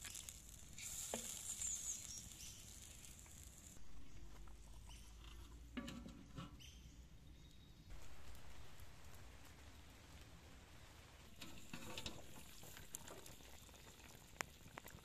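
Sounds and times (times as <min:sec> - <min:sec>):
stew sizzling in a wok: 0:00.0 - 0:05.0, 0:07.9 - 0:15.0.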